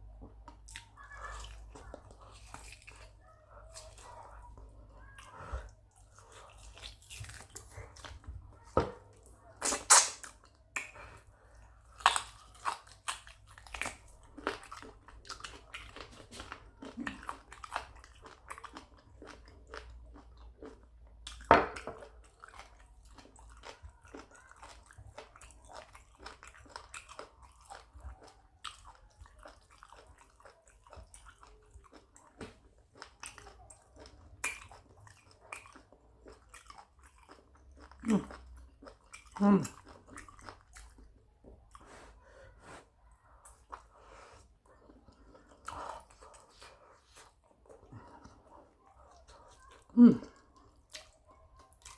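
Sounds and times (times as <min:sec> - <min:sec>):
chewing and wet mouth sounds: 0:00.0 - 0:51.9.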